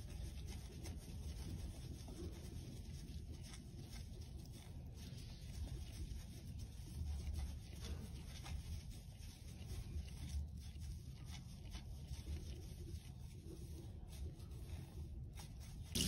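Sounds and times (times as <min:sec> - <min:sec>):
soapy sponge squishing: 0:00.0 - 0:16.0.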